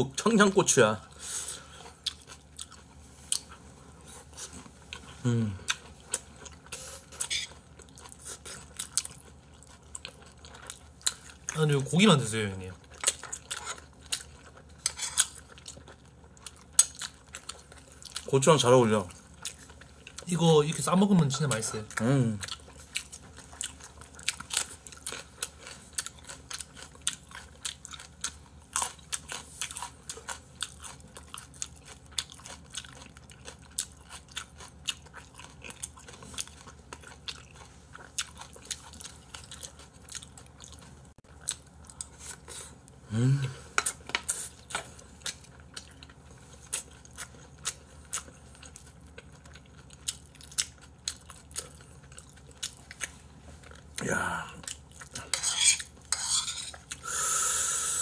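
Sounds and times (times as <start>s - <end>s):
chewing and crunching food: 0.1s - 57.1s.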